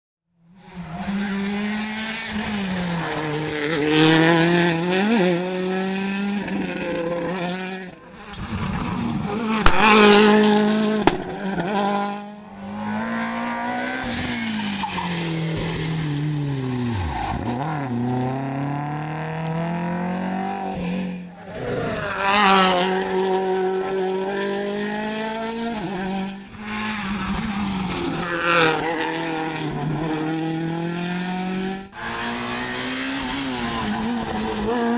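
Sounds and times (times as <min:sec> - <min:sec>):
rally cars passing at full throttle: 0:00.4 - 0:34.9.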